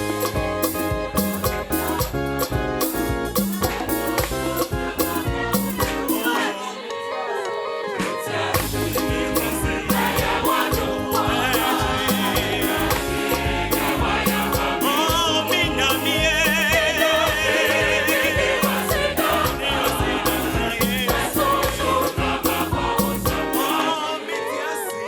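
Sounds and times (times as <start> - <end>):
live band with bass line: 0.0 - 6.3, 8.6 - 23.9
gospel choir singing: 0.0 - 25.0.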